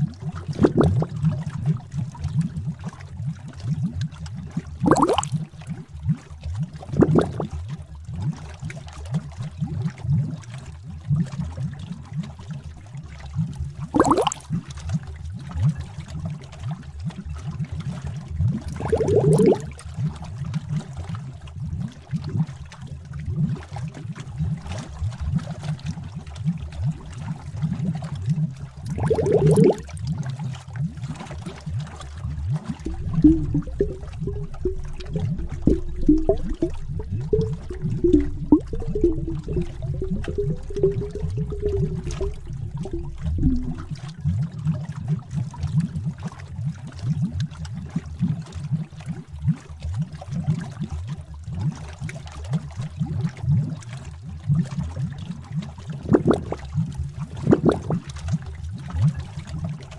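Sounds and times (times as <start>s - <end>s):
thick liquid bubbling: 0.0s - 59.9s.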